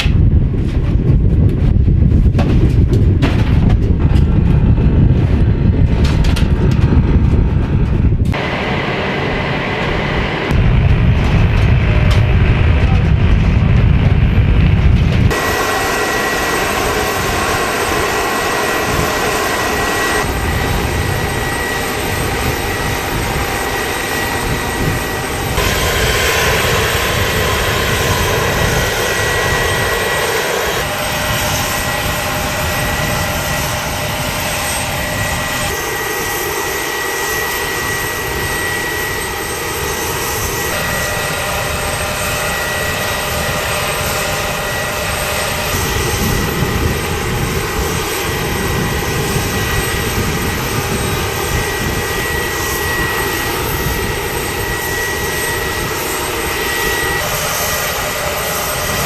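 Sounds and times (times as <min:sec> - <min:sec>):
helicopter rotor noise: 0:00.0 - 0:59.0
helicopter turbine whine: 0:00.0 - 0:59.0.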